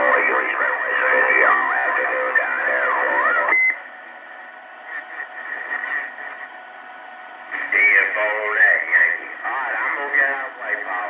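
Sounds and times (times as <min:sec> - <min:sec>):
distorted radio transmission: 0:00.0 - 0:03.9, 0:04.7 - 0:11.0
radio static and hiss: 0:00.0 - 0:11.0.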